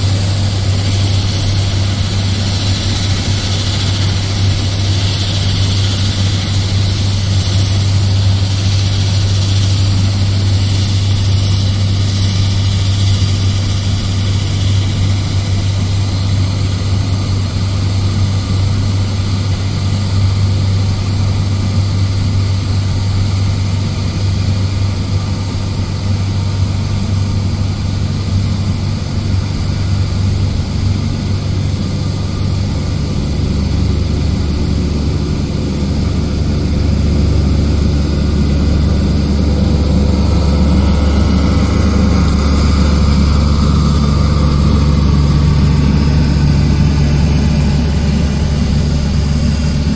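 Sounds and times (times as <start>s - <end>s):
deep engine hum: 0.0s - 49.9s
rush of machinery noise: 0.0s - 49.9s.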